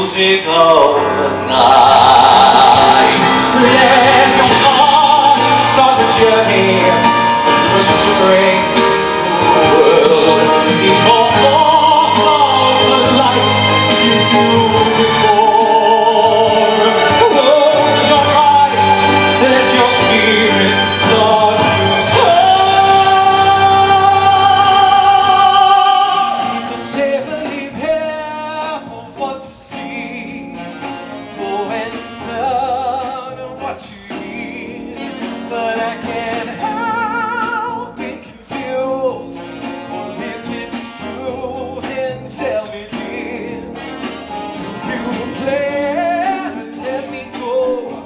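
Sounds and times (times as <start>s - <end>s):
person singing with vibrato: 0.0s - 48.0s
instrumental accompaniment: 0.2s - 48.0s.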